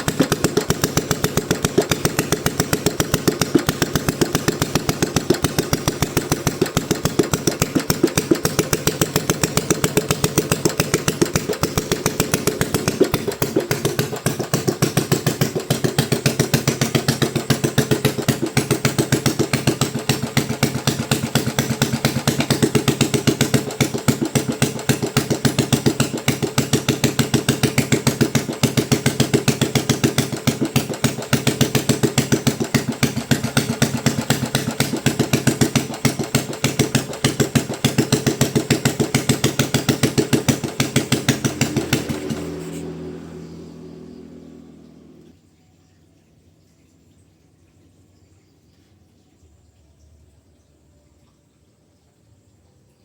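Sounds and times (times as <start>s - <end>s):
engine running steadily: 0.0s - 45.4s.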